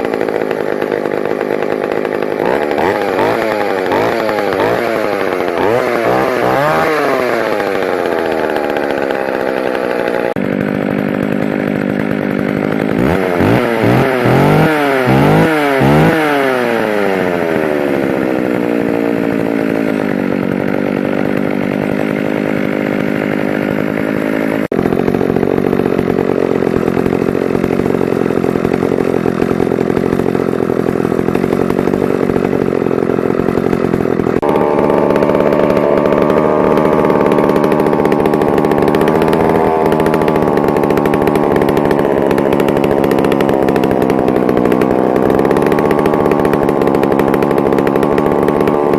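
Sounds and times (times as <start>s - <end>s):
chainsaw engine revving: 0.0s - 48.9s
chainsaw running steadily: 0.0s - 48.9s.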